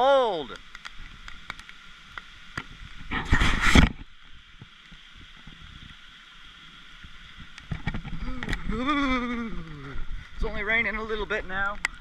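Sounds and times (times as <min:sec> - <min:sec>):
rain dripping through tree: 0:00.0 - 0:12.0.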